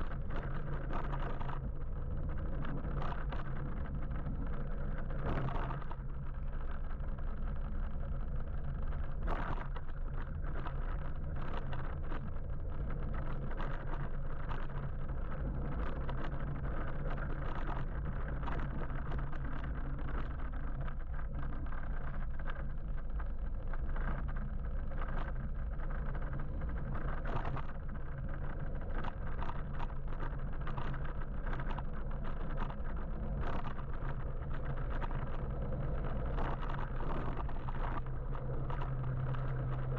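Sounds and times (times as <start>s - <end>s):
low steady hum: 0.0s - 39.9s
road and wind noise: 0.0s - 39.9s
small clicks and knocks: 0.0s - 39.9s.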